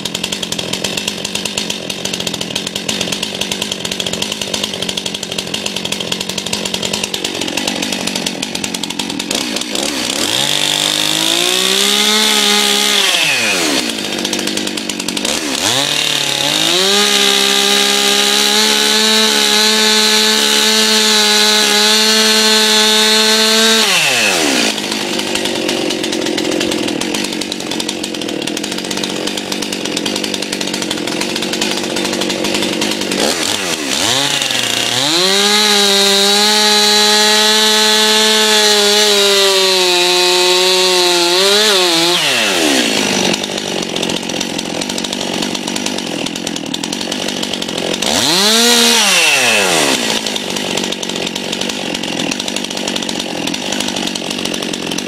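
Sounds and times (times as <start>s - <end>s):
chainsaw revving and cutting log: 0.0s - 55.0s.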